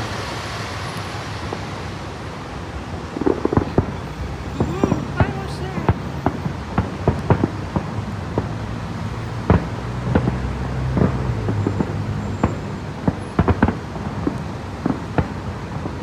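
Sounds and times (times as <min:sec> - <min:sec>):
distant fireworks banging: 0:00.0 - 0:16.0.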